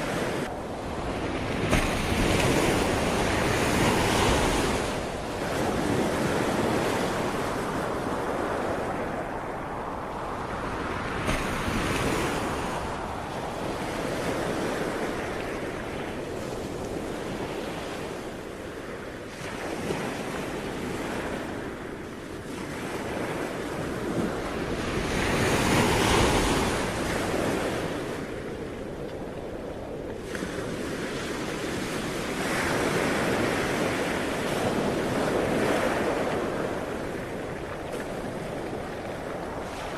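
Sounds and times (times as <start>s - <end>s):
sea waves surging: 0.0s - 39.9s.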